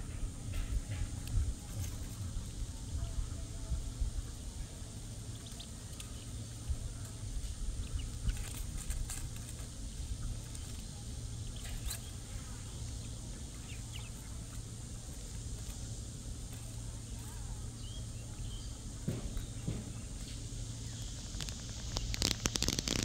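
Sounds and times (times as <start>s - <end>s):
ducklings peeping: 0.0s - 23.0s
rustles and pecks in leaves: 0.1s - 23.0s.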